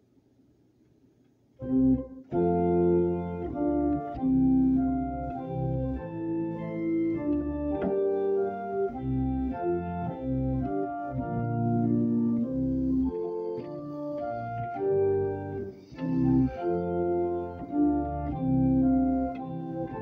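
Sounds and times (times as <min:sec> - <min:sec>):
church organ playing a hymn: 0:01.6 - 0:20.0.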